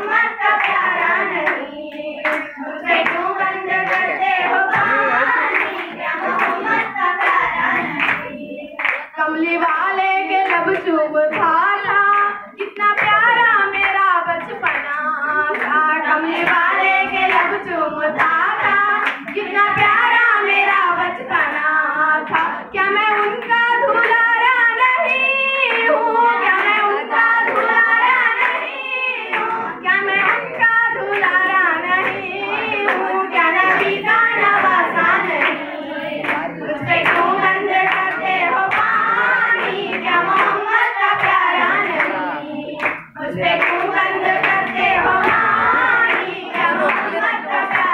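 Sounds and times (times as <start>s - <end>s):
girl singing through loudspeaker: 0.0s - 47.9s
hand clapping: 0.0s - 47.9s.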